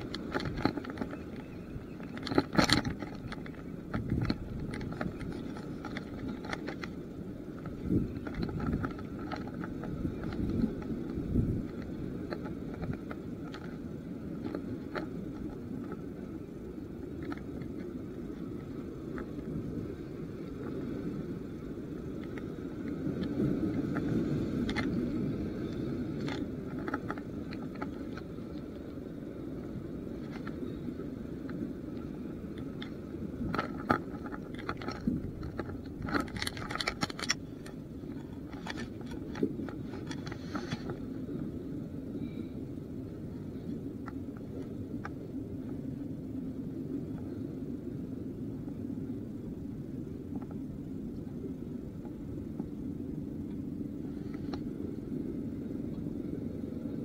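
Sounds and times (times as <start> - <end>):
sea noise: 0.0 - 57.0
wind: 0.0 - 57.0.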